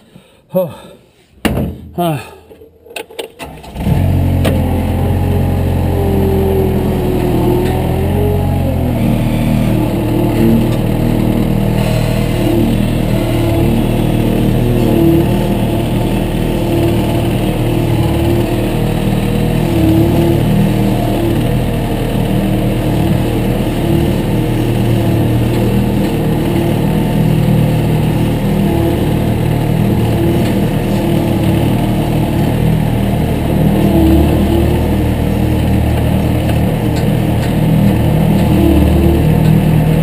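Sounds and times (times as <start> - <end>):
heavy equipment engine running: 2.5 - 40.0.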